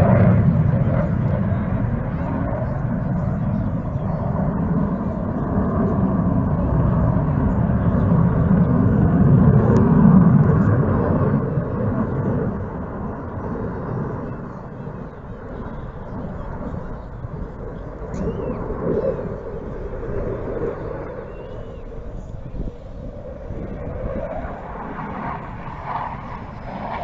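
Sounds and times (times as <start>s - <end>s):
aircraft flying overhead: 0.0s - 27.0s.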